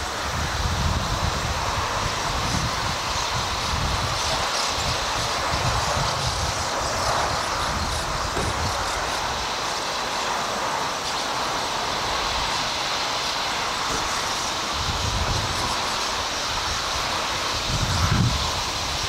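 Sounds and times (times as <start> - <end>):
flock of starlings calling: 0.0 - 19.0.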